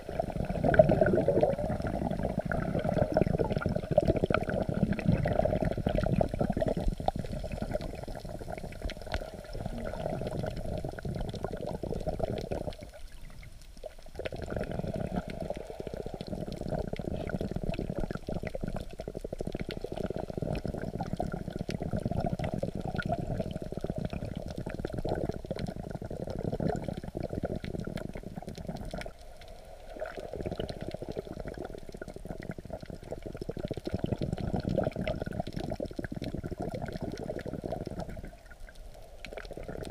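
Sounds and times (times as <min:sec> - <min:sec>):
small underwater clicks: 0:00.2 - 0:39.9.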